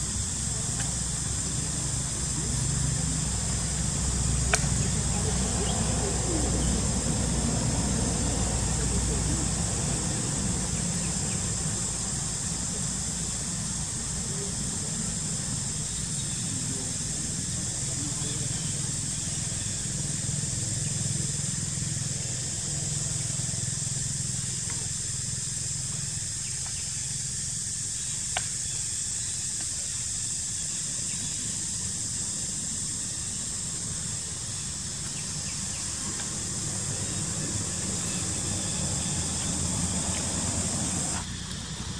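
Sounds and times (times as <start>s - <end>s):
high hiss: 0.0s - 41.9s.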